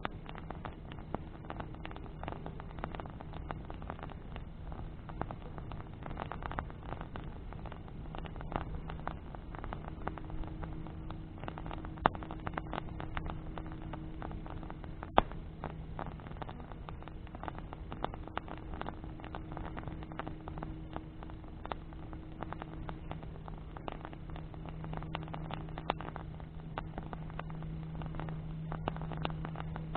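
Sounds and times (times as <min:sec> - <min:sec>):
wood bonfire crackling: 0:00.0 - 0:29.9.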